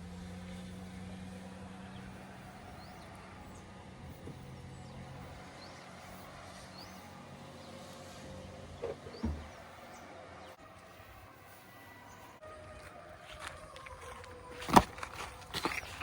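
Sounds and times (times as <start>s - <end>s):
birds chirping: 0.0s - 12.4s, 13.6s - 16.0s
diesel engine running: 0.0s - 16.0s.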